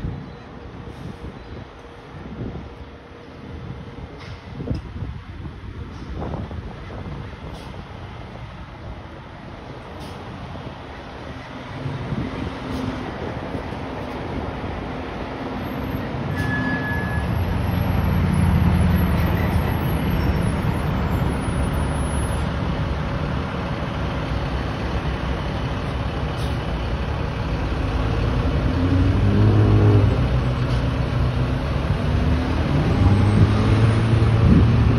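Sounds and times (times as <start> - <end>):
fire truck diesel engine: 0.0 - 34.9.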